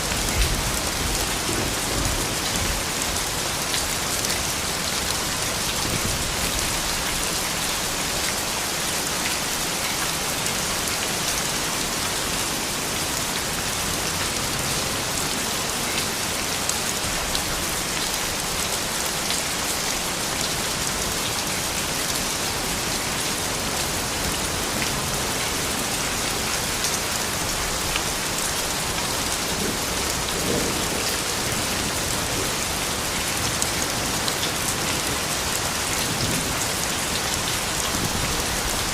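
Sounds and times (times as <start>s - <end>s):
soft rain pattering: 0.0s - 38.9s.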